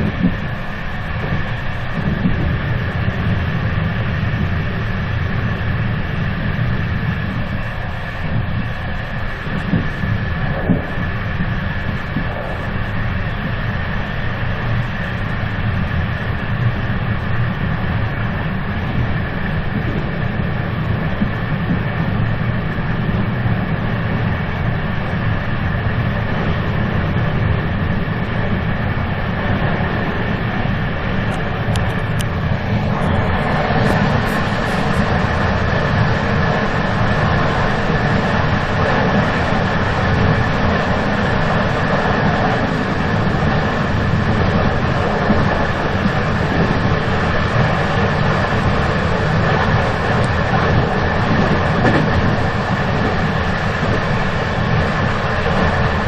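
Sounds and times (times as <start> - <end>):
moving train rumbling and whining: 0.0 - 56.0.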